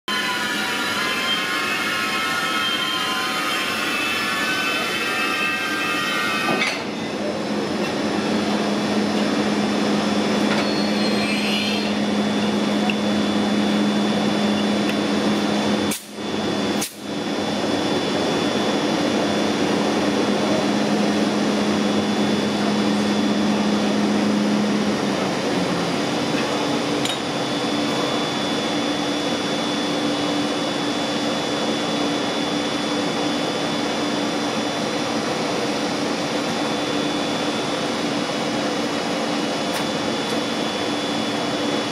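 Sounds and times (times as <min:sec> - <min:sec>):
high multi-tone whine: 0:00.1 - 0:41.9
electric locomotive whirring: 0:02.8 - 0:41.9.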